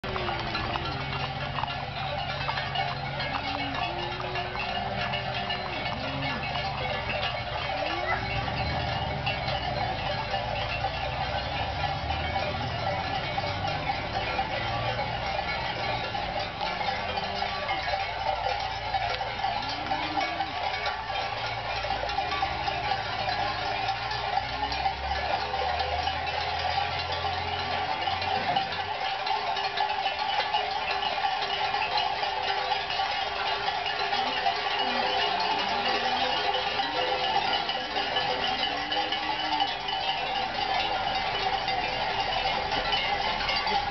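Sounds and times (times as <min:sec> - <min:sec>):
cowbells clanking: 0:00.0 - 0:43.9.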